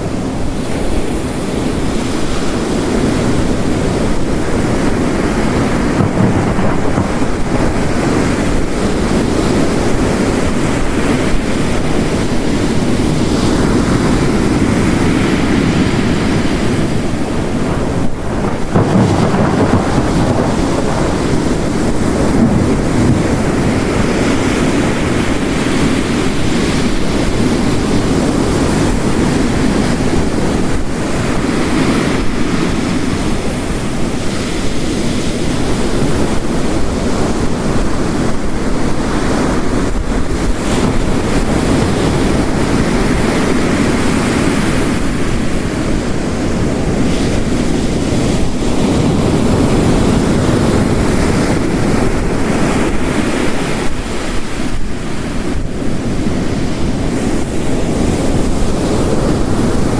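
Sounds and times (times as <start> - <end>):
heavy rain: 0.0 - 59.9
ocean waves breaking: 0.0 - 59.9.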